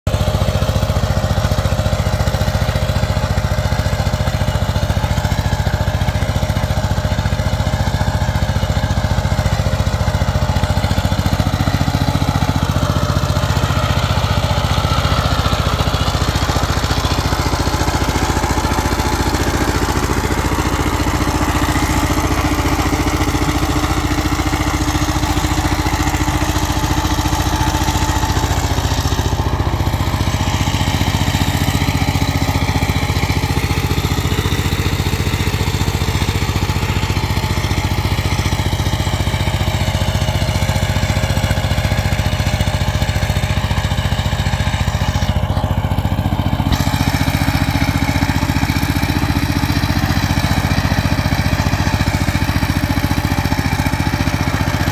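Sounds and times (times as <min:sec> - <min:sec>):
diesel tiller engine running: 0:00.1 - 0:54.9.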